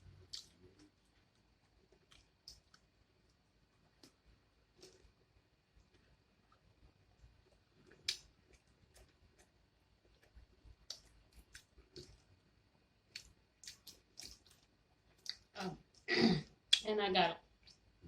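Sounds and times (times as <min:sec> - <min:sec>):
person chewing food: 0:00.0 - 0:12.4, 0:13.0 - 0:16.8.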